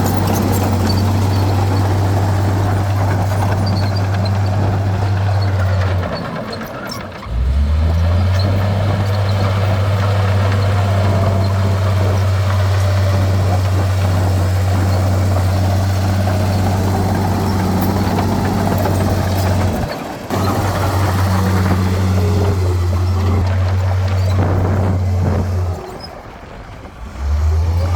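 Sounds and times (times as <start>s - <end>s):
diesel engine droning: 0.0s - 27.9s.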